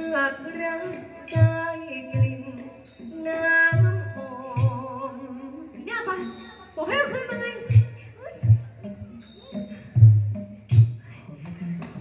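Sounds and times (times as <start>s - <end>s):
low drum beats: 1.3s - 5.2s, 6.2s - 12.0s.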